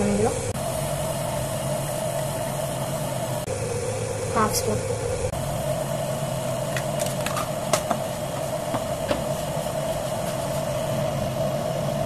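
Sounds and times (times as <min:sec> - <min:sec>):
low hum: 0:00.0 - 0:12.0
water heating with hiss: 0:00.0 - 0:12.0.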